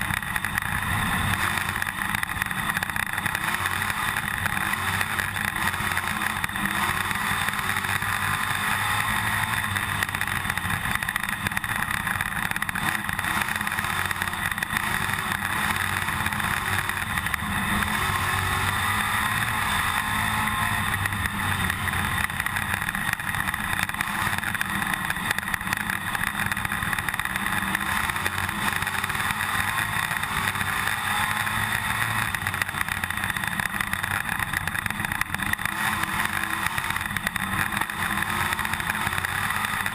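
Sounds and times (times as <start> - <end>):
race car engine revving: 0.0 - 39.9
steady rattle: 0.0 - 39.9.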